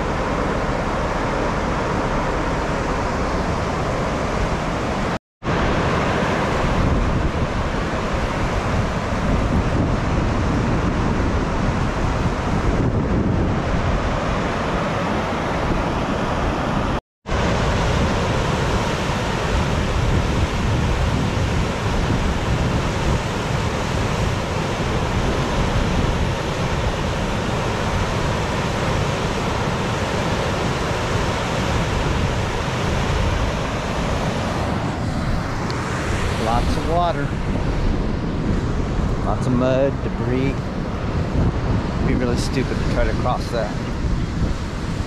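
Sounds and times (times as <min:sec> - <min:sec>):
floodwater rushing: 0:00.0 - 0:45.0
wind buffeting microphone: 0:00.0 - 0:45.0.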